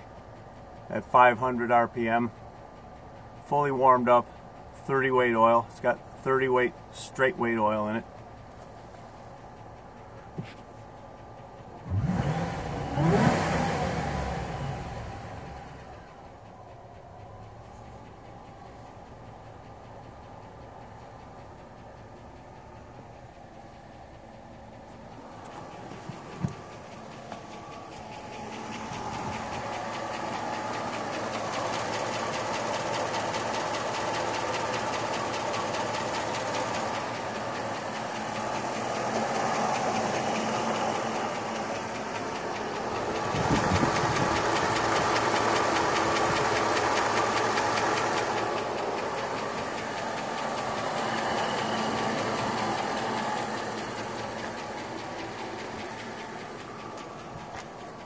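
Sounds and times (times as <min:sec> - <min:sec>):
car engine idling: 0:00.0 - 0:58.0
valve-train ticking: 0:00.0 - 0:58.0.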